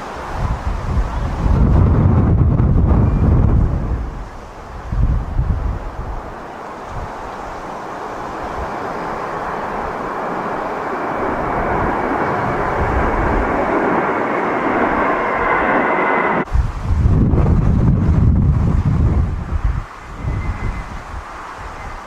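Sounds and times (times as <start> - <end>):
jet engines roaring: 0.0 - 22.0
wind buffeting microphone: 0.0 - 22.0.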